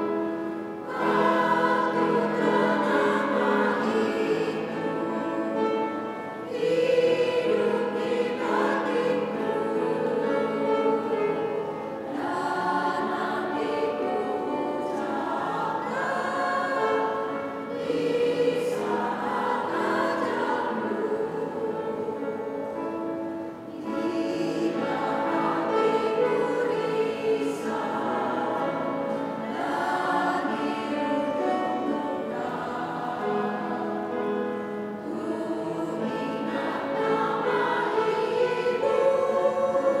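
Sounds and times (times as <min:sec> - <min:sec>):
women's choir singing a hymn: 0:00.0 - 0:40.0.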